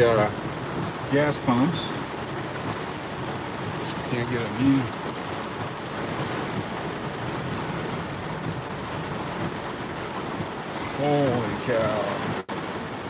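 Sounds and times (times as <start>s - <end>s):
heavy rain on a car: 0.0s - 13.0s.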